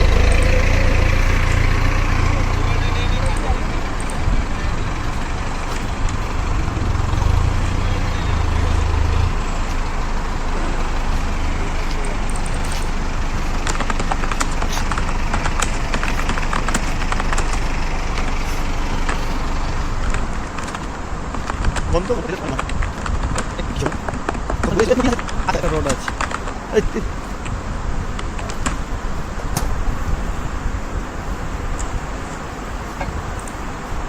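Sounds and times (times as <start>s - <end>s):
scattered clicks and knocks: 0.0s - 28.9s
tractor engine running hard: 0.0s - 34.0s.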